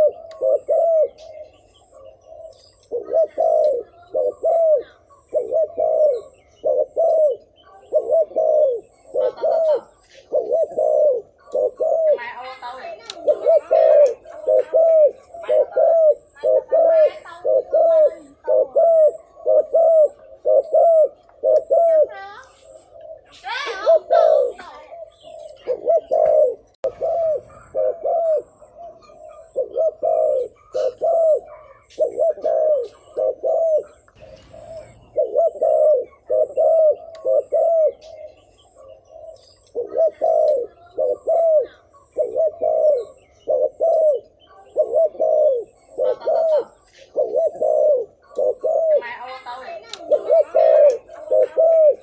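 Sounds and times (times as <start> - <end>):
dove cooing: 0.0 - 52.0.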